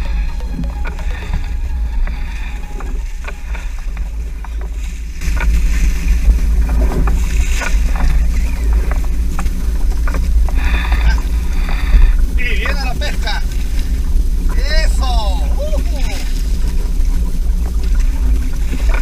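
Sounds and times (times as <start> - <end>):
boat engine low rumble: 0.0 - 19.0
water splashing: 0.0 - 19.0.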